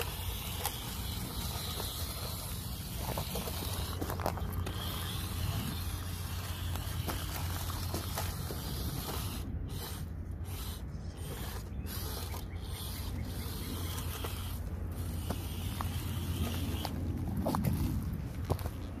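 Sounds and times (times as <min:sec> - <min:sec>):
toy truck motor humming: 0:00.0 - 0:17.3.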